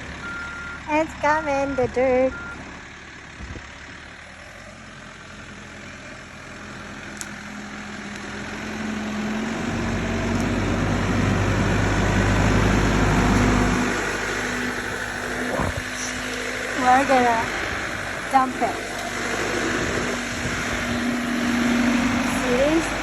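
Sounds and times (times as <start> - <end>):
backhoe diesel engine: 0.0 - 23.0.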